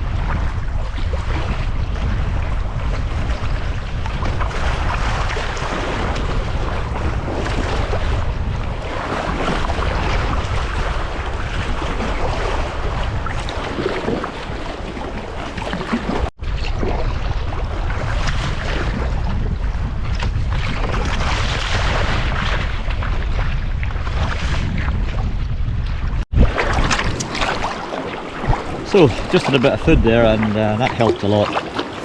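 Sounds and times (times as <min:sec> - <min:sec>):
water splashing around kayak: 0:00.0 - 0:32.0
wind buffeting microphone: 0:00.0 - 0:32.0.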